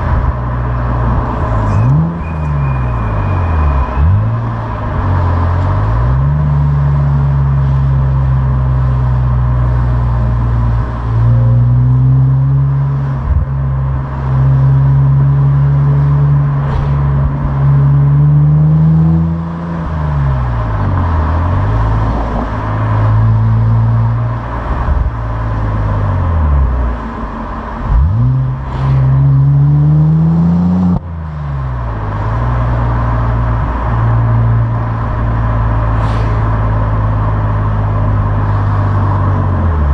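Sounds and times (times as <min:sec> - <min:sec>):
car engine under load: 0:00.0 - 0:39.9.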